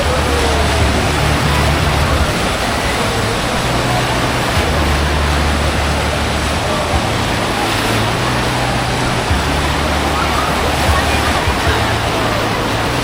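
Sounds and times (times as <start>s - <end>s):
faint distant voices: 0.0s - 13.0s
rushing water: 0.0s - 13.0s
wind buffeting microphone: 0.0s - 13.0s.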